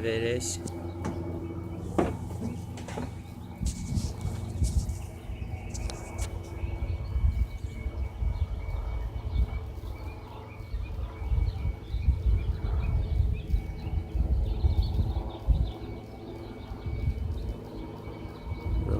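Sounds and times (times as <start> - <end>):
uneven low rumble: 0.0 - 18.9.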